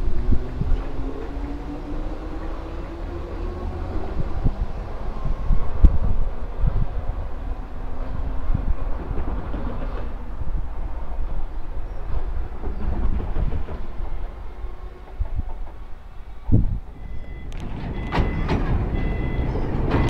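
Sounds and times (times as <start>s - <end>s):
train wheels rumbling and knocking: 0.0s - 20.0s.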